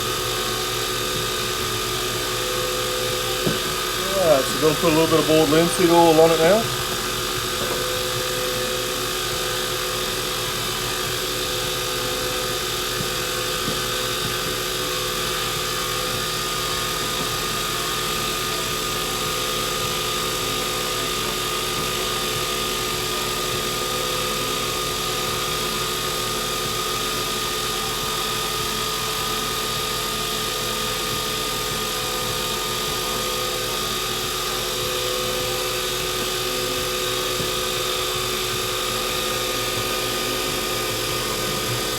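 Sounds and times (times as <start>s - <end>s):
wood lathe motor whine: 0.0s - 41.9s.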